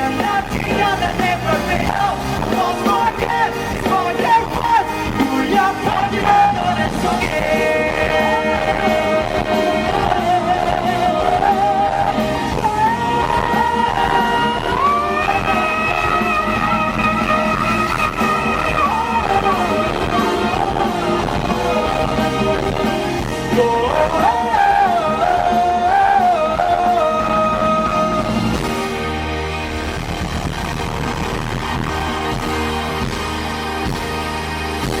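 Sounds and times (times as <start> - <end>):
person singing: 0.0 - 29.0
live pop-rock band: 0.0 - 35.0.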